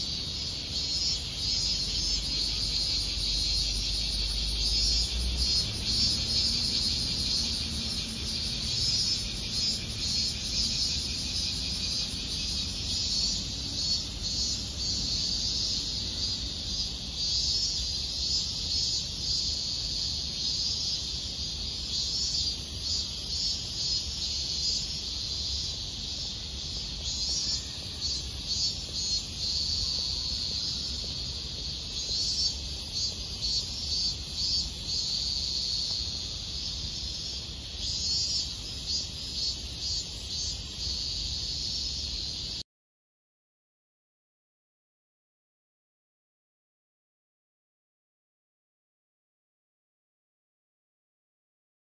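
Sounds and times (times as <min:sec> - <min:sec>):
cicadas buzzing: 0:00.0 - 0:42.6.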